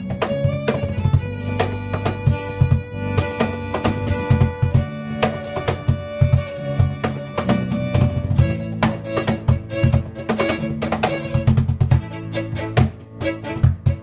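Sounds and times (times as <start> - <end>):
low bass: 0.0 - 14.0
steady drum beat: 0.0 - 14.0
violin holding notes: 0.0 - 14.0.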